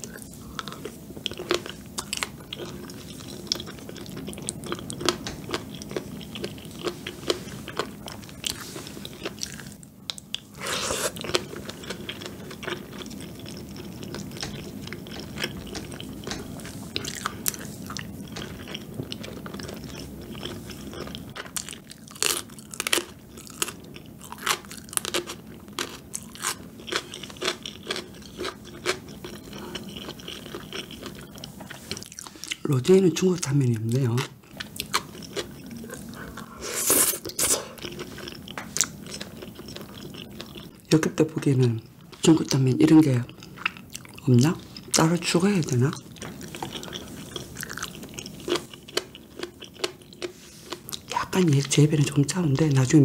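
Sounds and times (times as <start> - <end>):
close chewing and mouth clicks: 0.0 - 41.0, 41.9 - 51.8.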